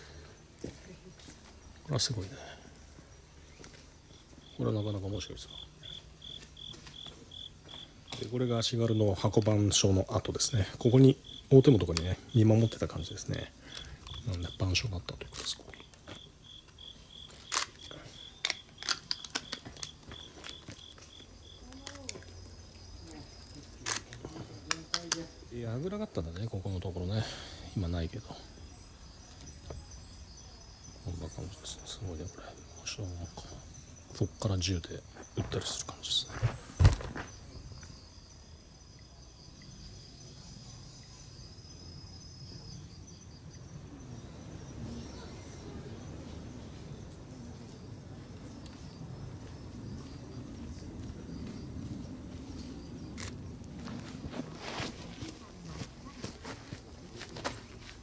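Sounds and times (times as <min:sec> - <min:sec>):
insect chirping in high pulses: 0:00.0 - 0:58.0.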